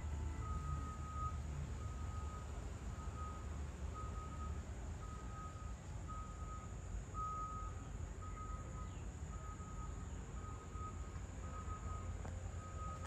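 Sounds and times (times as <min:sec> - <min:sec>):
reversing alarm beeping: 0:00.0 - 0:13.0.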